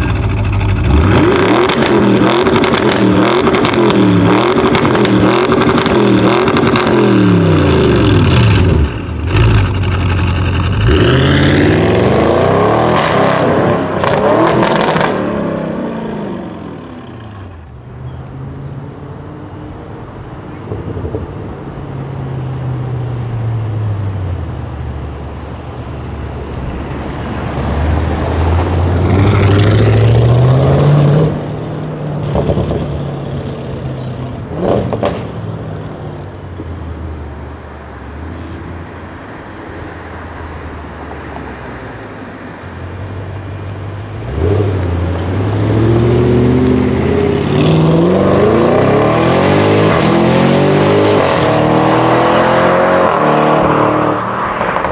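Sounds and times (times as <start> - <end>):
car engine revving: 0.0 - 17.9, 24.5 - 39.4, 40.2 - 54.9.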